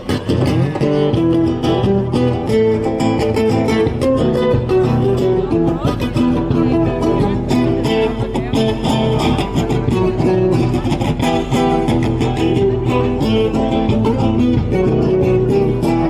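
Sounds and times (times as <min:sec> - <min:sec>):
strummed acoustic guitar: 0:00.0 - 0:16.0
steady drum beat: 0:00.2 - 0:16.0.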